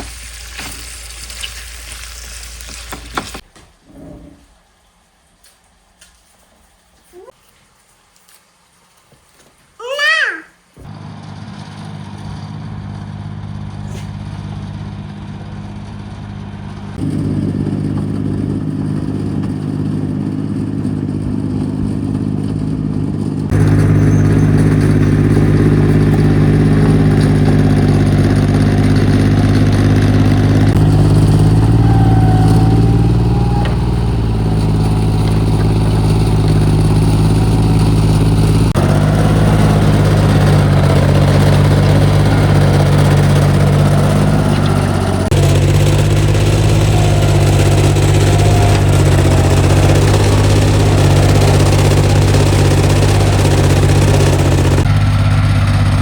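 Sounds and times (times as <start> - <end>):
excavator diesel engine running: 10.8 - 56.0.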